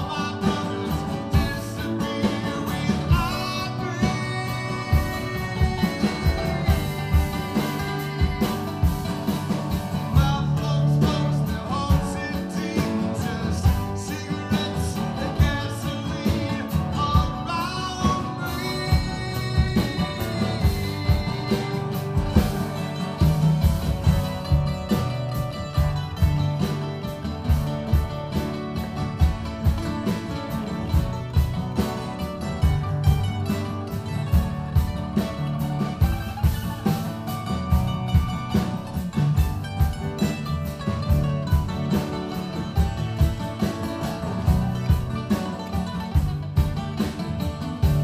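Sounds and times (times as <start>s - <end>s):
picked mandolin: 0.0s - 48.0s
steady drum beat: 0.0s - 48.0s
strummed acoustic guitars: 0.0s - 48.0s.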